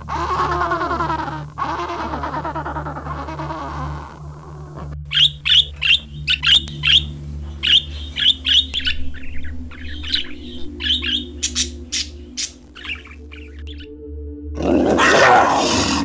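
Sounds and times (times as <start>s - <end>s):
parrots squawking: 0.0s - 13.9s
steady low hum: 0.0s - 14.5s.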